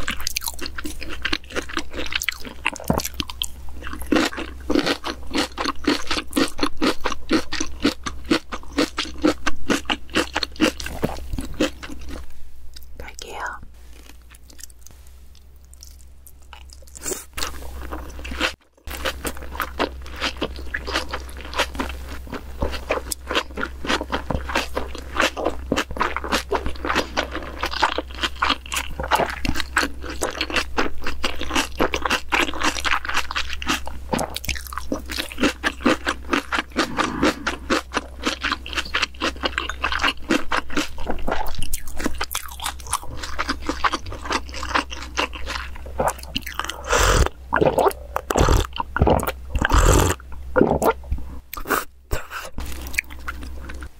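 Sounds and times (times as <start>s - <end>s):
wet chewing and crunching: 0.0s - 53.9s.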